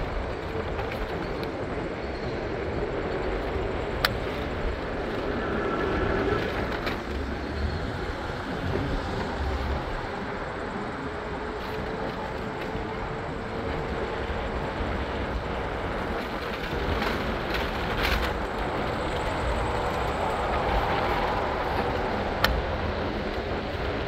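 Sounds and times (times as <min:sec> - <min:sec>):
train running: 0:00.0 - 0:24.0.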